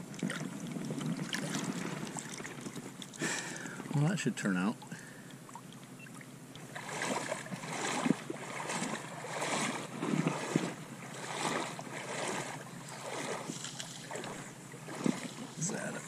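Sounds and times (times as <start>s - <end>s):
seawater sloshing and splashing: 0.0s - 4.1s, 5.0s - 16.0s.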